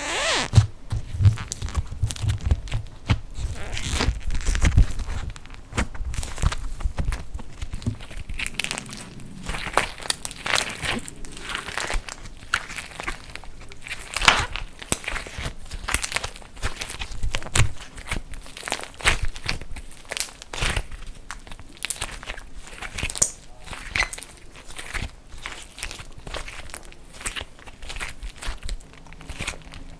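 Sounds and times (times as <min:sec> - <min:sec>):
dried clay coating cracking: 0:00.6 - 0:29.9.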